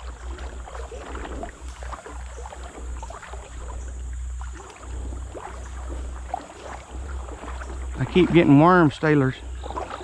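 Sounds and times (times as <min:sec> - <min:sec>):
creek water trickling: 0:00.0 - 0:10.0.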